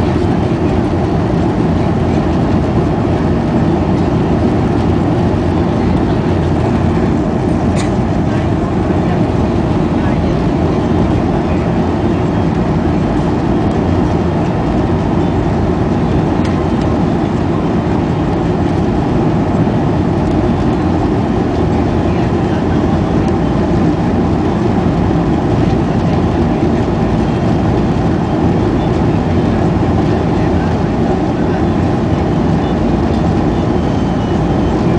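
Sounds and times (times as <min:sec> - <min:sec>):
airplane cabin engine hum: 0:00.0 - 0:34.9.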